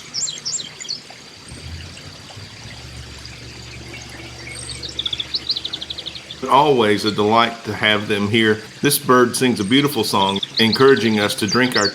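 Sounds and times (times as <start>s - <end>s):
small birds chirping: 0.0s - 11.9s
steady trickling hiss: 0.0s - 11.9s.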